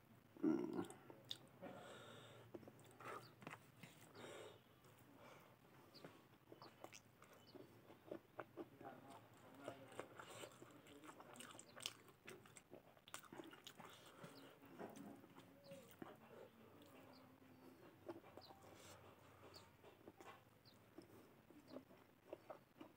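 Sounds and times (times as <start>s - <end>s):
person chewing food: 2.4s - 4.2s, 5.9s - 22.9s.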